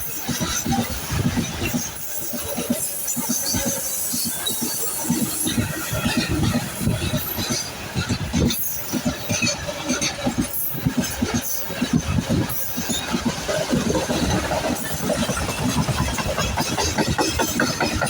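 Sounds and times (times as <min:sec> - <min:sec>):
train wheels clattering over rail joints: 0:00.0 - 0:18.0.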